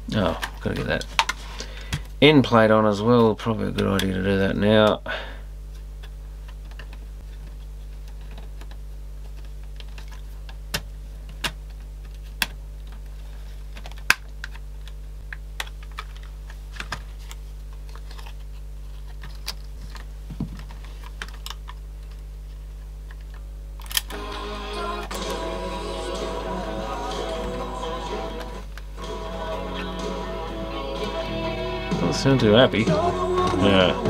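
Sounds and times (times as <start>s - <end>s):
cassette tape playback: 0.0s - 34.0s.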